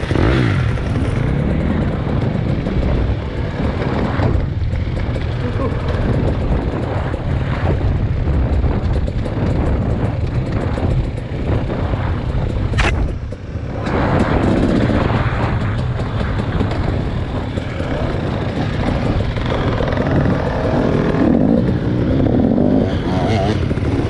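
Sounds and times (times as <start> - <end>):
vehicle motor rumbling: 0.0 - 24.0.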